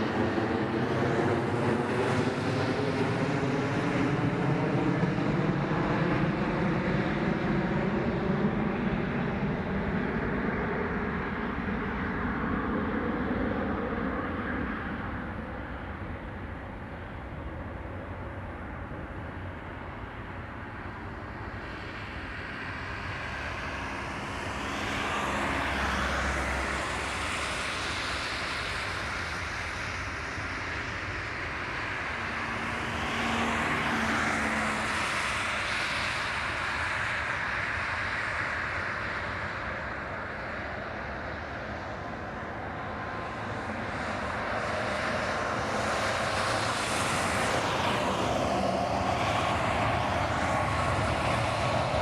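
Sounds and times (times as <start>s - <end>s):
jet engine roar: 0.0s - 52.0s.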